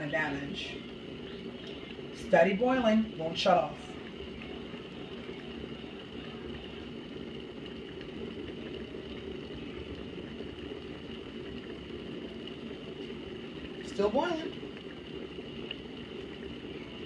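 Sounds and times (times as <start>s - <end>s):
kettle water boiling: 0.0s - 17.0s.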